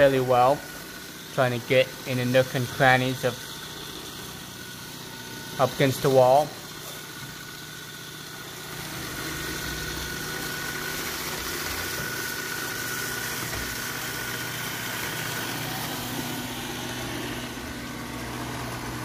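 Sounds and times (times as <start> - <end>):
robot vacuum motor whine: 0.0 - 19.0.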